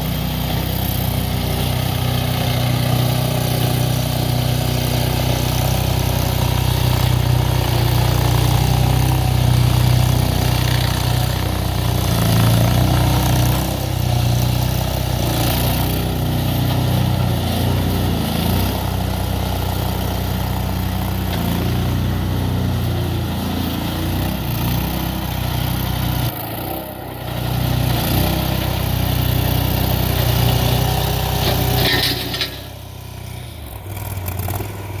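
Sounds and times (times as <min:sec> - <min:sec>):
gas engine running: 0:00.0 - 0:35.0.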